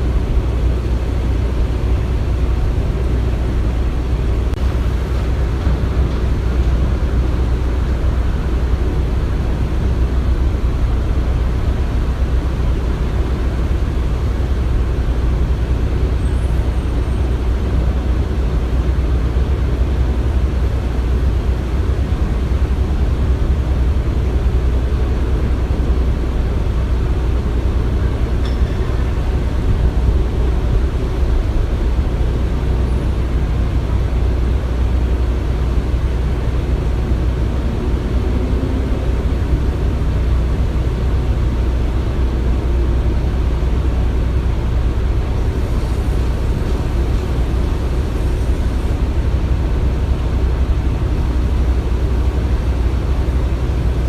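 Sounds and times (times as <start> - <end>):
heavy engines rumbling: 0.0 - 54.0.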